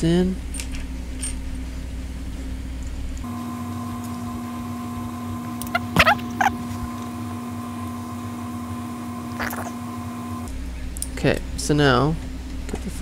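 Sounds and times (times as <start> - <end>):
steady electrical hum: 0.1 - 12.6.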